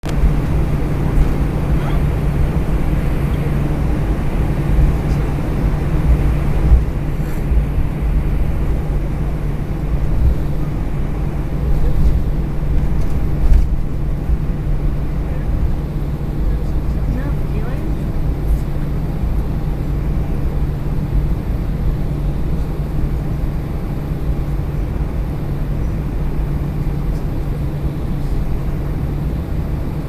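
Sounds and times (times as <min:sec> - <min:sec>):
aircraft cabin hum: 0:00.0 - 0:30.0.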